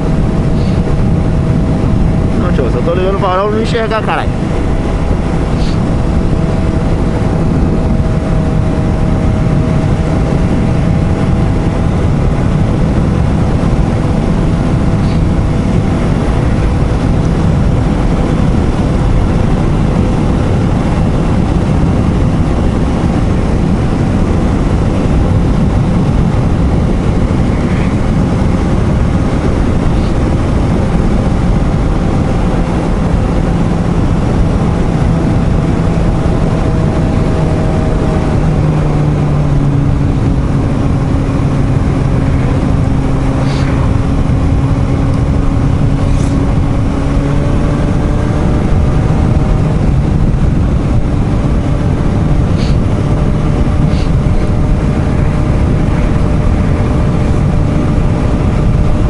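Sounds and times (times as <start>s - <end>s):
motorcycle engine cruising: 0.0s - 59.0s
wind rushing: 0.0s - 59.0s.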